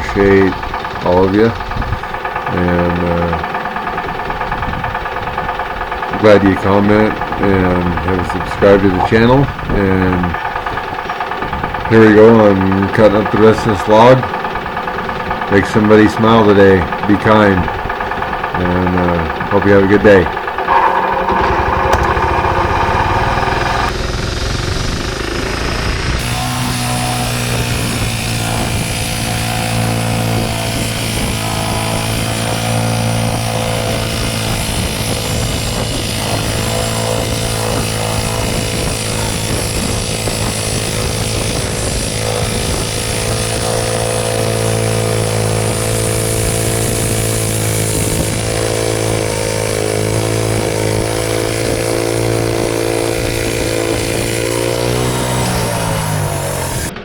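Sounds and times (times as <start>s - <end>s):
band blade sawing log: 0.0s - 23.9s, 26.2s - 57.0s
sawmill engine running: 0.0s - 57.0s.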